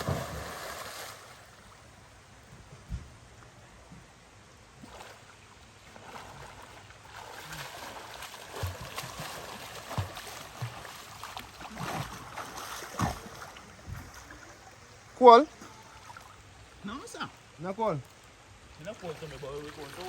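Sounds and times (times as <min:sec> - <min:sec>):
river water rushing and splashing: 0:00.0 - 0:01.9, 0:04.8 - 0:20.0.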